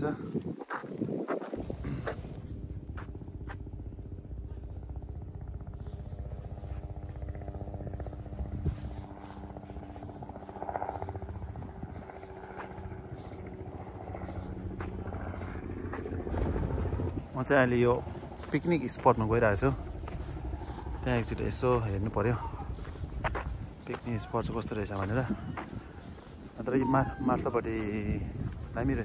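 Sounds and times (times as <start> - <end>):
engine drone: 0.4 - 29.0.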